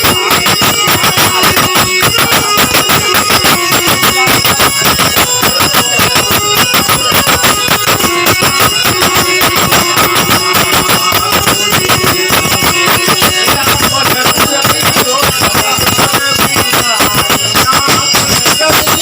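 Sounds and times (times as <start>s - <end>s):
fast percussion beat: 0.0s - 19.0s.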